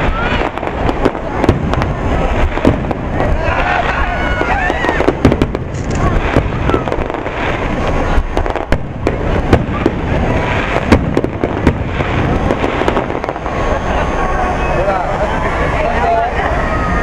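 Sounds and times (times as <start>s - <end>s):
firework shells bursting: 0.0s - 14.4s
firework crackling: 0.0s - 17.0s.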